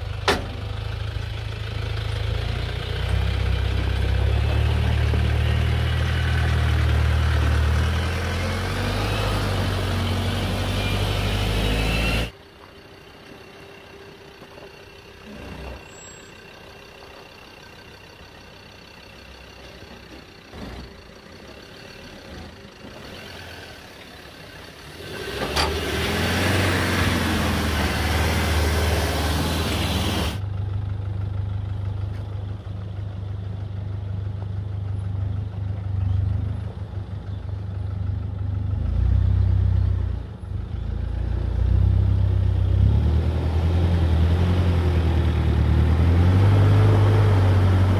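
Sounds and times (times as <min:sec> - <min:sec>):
off-road engines in low gear: 0:00.0 - 0:47.9.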